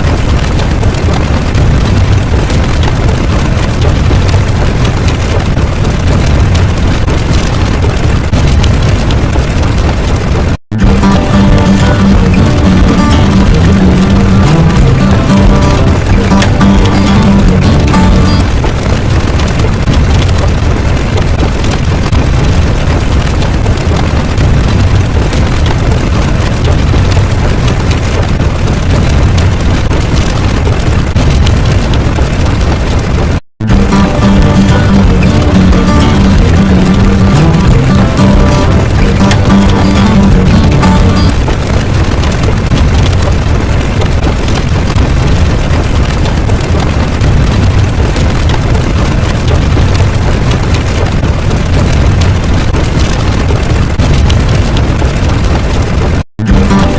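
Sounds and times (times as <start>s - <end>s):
heavy low rumble: 0.0s - 56.9s
small crackles: 0.0s - 56.9s.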